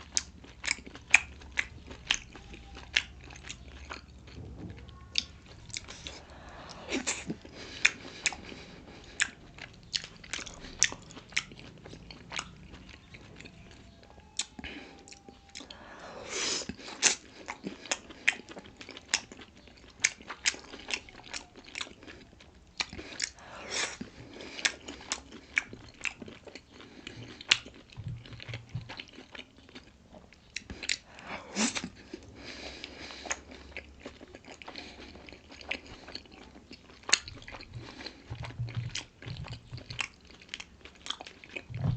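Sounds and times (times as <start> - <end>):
wet chewing and mouth clicks: 0.0 - 15.8, 16.6 - 41.9.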